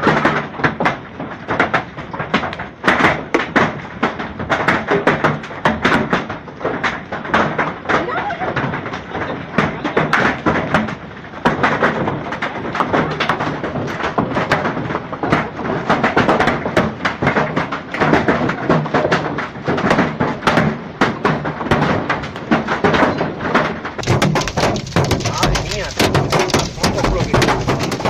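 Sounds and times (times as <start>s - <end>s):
hailstones clattering on hard surface: 0.0s - 28.0s.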